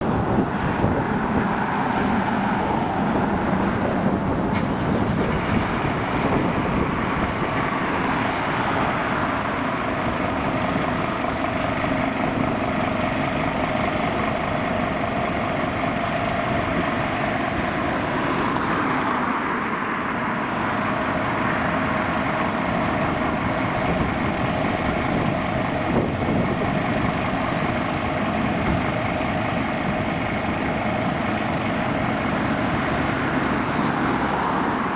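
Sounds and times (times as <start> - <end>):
road traffic engines: 0.0 - 34.9.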